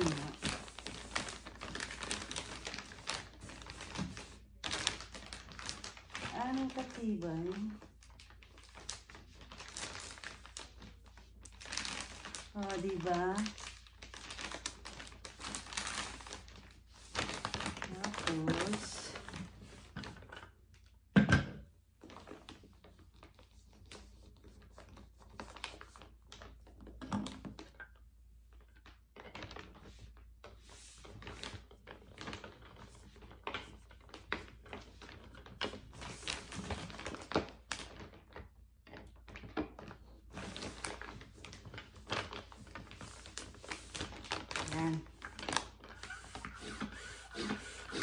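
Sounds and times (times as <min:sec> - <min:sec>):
plastic bags rustling: 0:00.0 - 0:20.3, 0:28.8 - 0:48.0.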